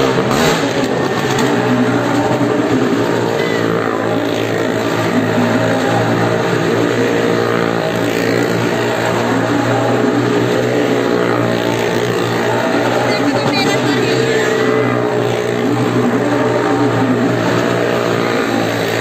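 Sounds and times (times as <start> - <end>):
motorcycle engine at high revs: 0.0 - 19.0.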